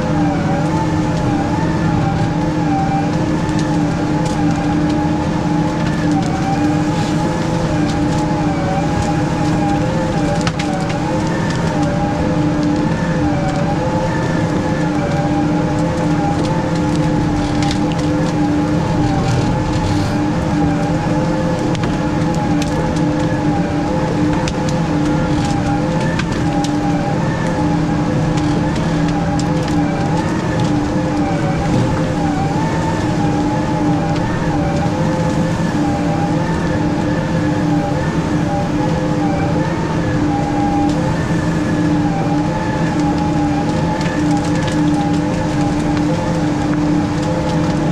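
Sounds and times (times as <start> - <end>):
diesel engine running: 0.0 - 47.9
high engine whine: 0.0 - 47.9.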